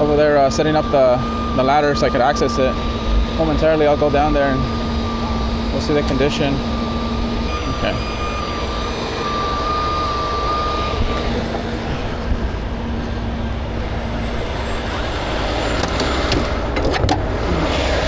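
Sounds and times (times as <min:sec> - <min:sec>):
alarm beeping: 0:00.0 - 0:15.8
truck engine idling: 0:00.0 - 0:18.0.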